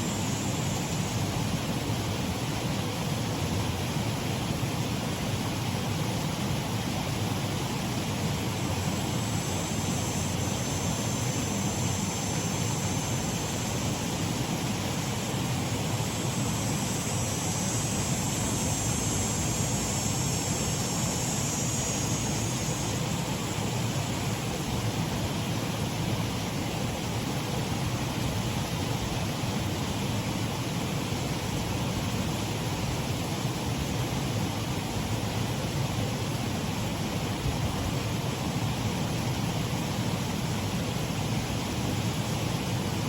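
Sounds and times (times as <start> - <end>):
water rushing over waterfall: 0.0 - 43.0.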